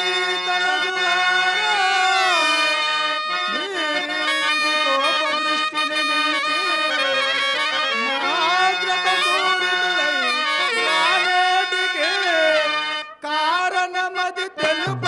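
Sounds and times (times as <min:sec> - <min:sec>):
harmonium chords and melody: 0:00.0 - 0:15.0.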